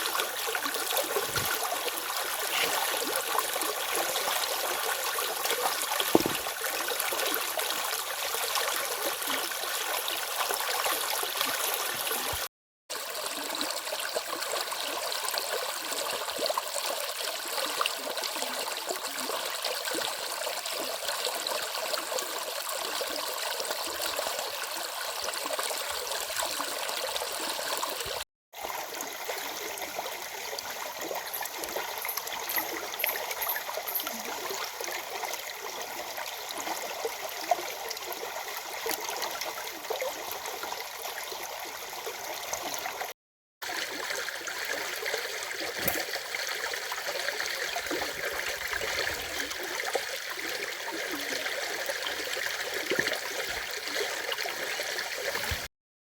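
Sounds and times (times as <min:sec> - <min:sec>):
stream running over rocks: 0:00.0 - 0:55.7.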